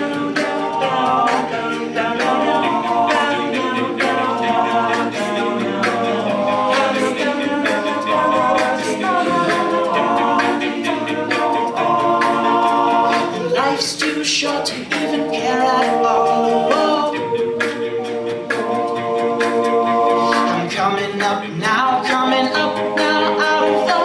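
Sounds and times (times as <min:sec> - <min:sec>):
group singing in close harmony: 0:00.0 - 0:24.0
vocal percussion beat: 0:00.0 - 0:24.0.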